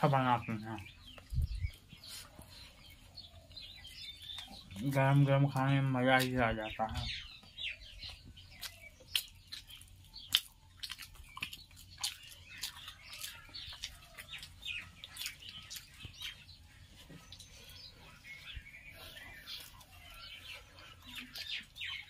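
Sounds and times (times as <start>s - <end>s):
small birds chirping: 0.0s - 22.0s
person chewing food: 0.8s - 4.9s, 7.3s - 22.0s.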